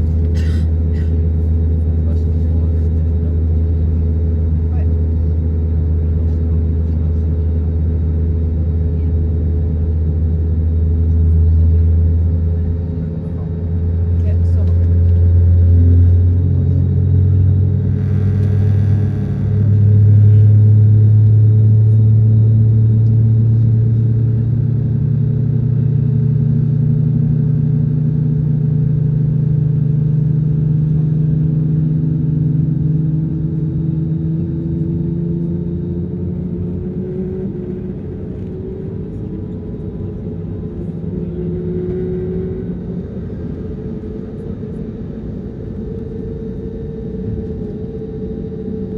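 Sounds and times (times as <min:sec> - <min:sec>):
airliner engines droning: 0:00.0 - 0:48.9.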